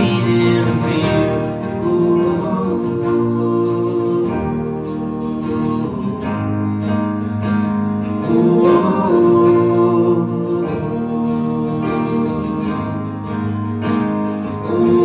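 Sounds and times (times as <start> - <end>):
held melody notes bending: 0.0 - 15.0
keyboard: 0.0 - 15.0
strummed acoustic guitars: 0.0 - 15.0
upright bass: 0.0 - 15.0.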